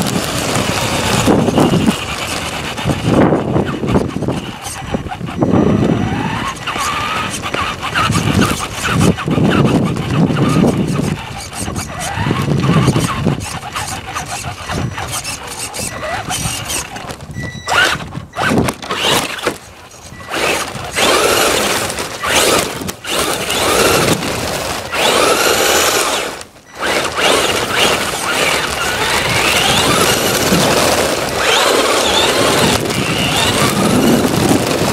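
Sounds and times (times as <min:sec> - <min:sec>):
electric motor whine: 0:00.0 - 0:34.9
toy truck rattling over paving: 0:00.0 - 0:34.9.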